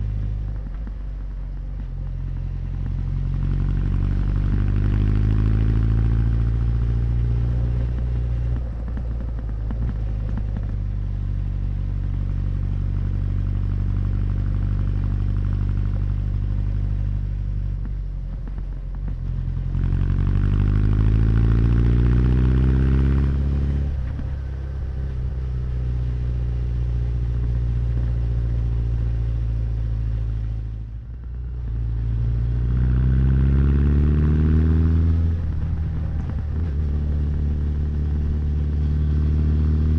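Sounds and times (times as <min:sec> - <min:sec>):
motorcycle exhaust revving: 0:00.0 - 0:39.9.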